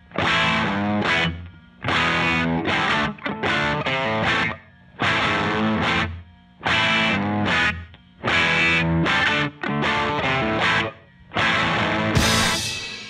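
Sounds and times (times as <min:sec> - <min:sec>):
distorted electric guitar rock: 0:00.0 - 0:13.0.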